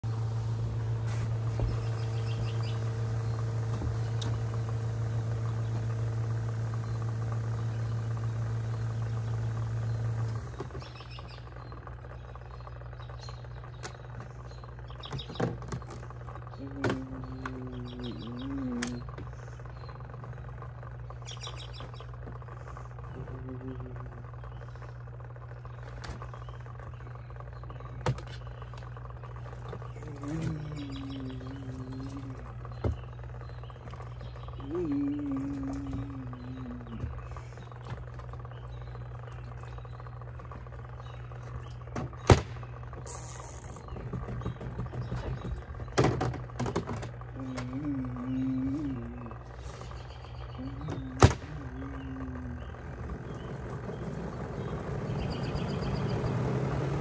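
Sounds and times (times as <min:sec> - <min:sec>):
laundry machine humming: 0:00.0 - 0:57.0.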